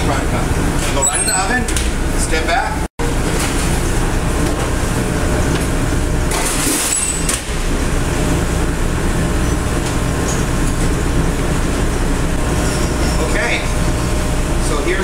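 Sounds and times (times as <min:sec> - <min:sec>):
ventilation drone: 0:00.0 - 0:15.0.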